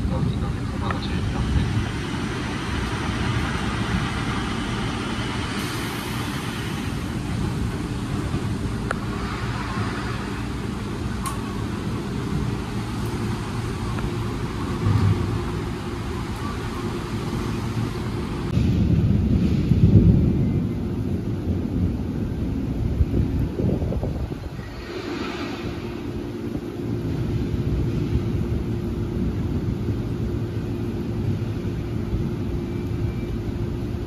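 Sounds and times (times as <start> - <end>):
electric train humming: 0.0 - 34.0
rain hissing: 0.0 - 34.0.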